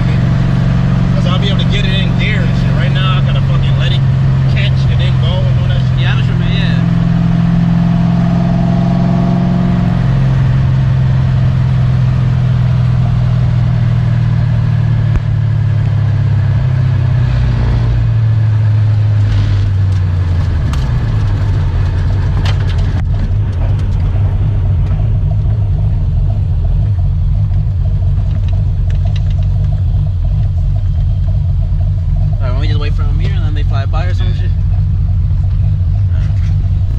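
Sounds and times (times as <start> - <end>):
car engine running at speed: 0.0 - 36.9
road noise: 0.0 - 36.9.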